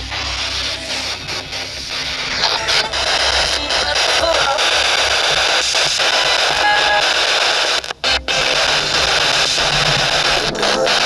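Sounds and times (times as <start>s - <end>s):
faint radio tones: 0.0s - 11.0s
radio static hiss: 0.0s - 11.0s.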